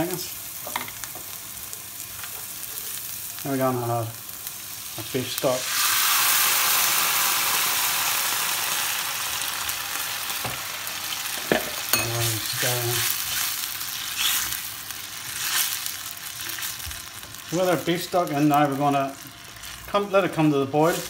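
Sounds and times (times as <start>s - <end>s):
liquid sizzling in hot pan: 0.0s - 21.0s.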